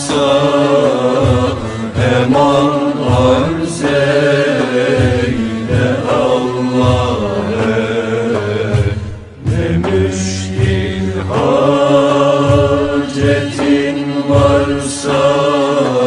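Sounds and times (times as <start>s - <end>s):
low chanted drone: 0.0s - 16.0s
person singing ornamented notes: 0.0s - 16.0s.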